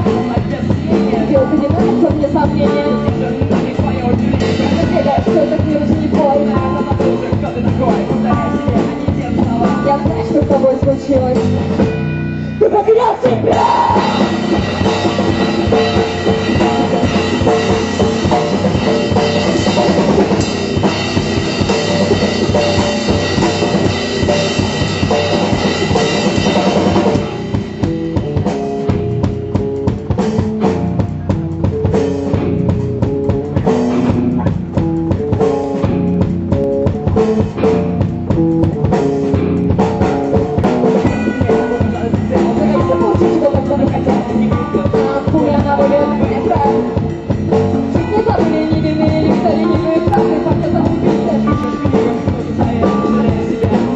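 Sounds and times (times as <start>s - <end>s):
drum kit: 0.0s - 53.9s
electric bass: 0.0s - 53.9s
electric guitar: 0.0s - 53.9s.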